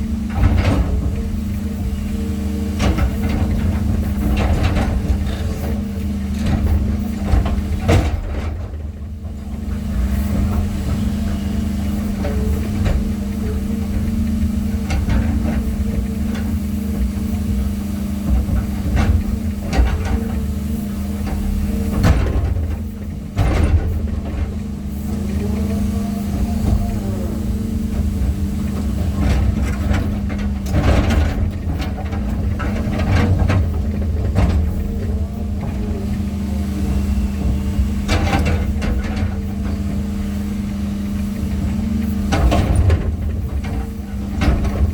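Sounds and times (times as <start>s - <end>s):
heavy machine engine humming: 0.0s - 44.9s.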